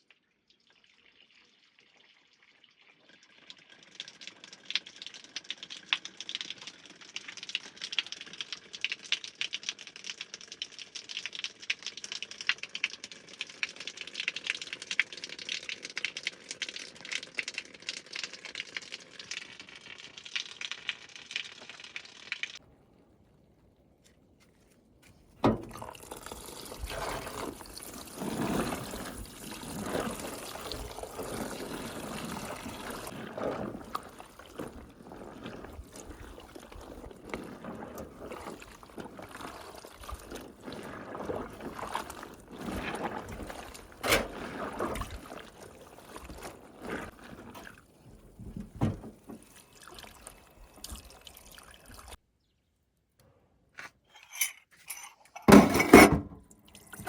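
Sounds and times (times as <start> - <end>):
water pouring and trickling: 0.0 - 22.6, 25.4 - 52.2, 54.2 - 57.0.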